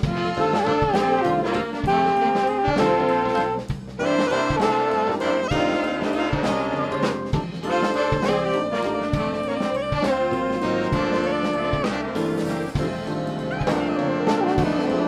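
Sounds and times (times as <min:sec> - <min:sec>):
brass horns playing jazz: 0:00.0 - 0:15.0
drum strokes: 0:00.0 - 0:15.0.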